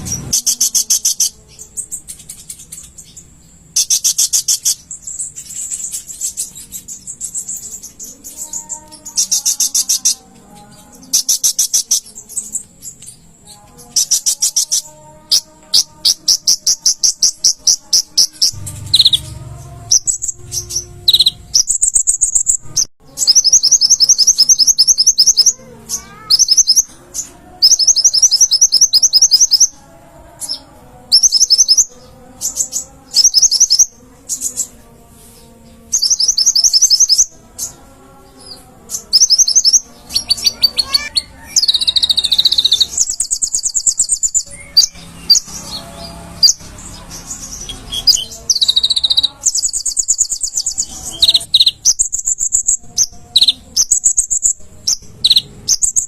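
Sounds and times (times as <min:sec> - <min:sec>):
sunbird singing high trills: 0:00.1 - 0:29.8, 0:35.9 - 0:37.8, 0:38.4 - 0:56.0.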